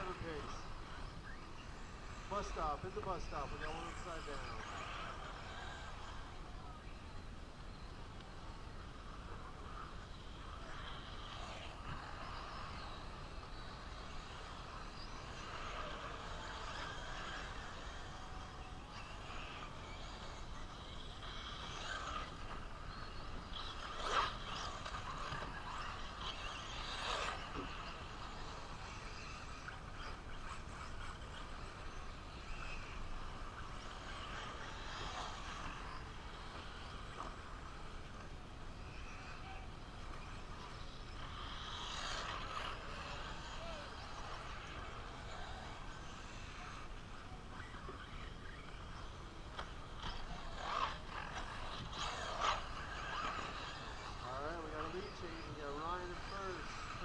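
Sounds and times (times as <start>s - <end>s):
electric motors whining: 0.0s - 57.0s.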